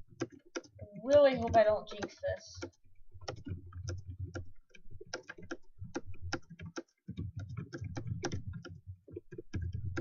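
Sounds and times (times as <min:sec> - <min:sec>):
fast keyboard typing: 0:00.1 - 0:10.0.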